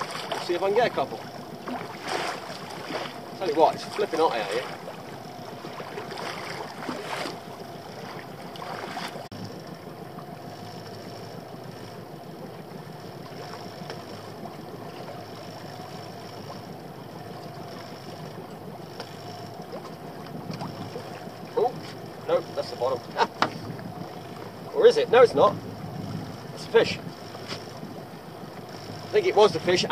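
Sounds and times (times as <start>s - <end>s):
faint steady tone: 0.0s - 29.9s
water lapping against boat hull: 0.0s - 29.9s.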